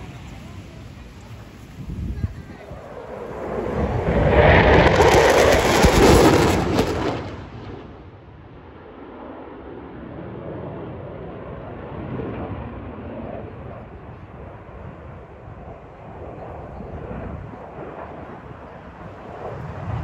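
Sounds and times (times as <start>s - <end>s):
jet engine roaring with afterburner: 0.0s - 20.0s.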